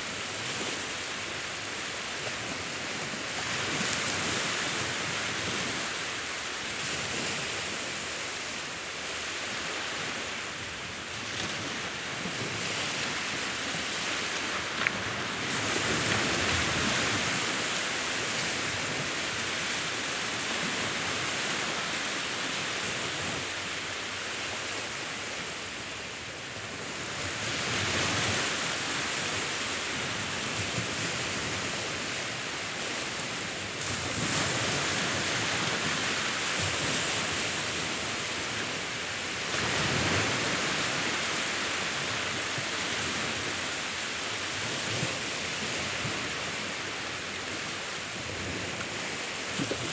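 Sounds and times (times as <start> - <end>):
sea waves washing ashore: 0.0 - 49.9.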